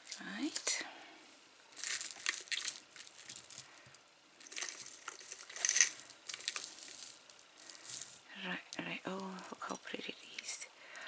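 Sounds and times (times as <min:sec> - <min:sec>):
jewelry clinking: 0:00.0 - 0:00.8, 0:01.6 - 0:10.6
rustling handling noise: 0:01.6 - 0:10.6.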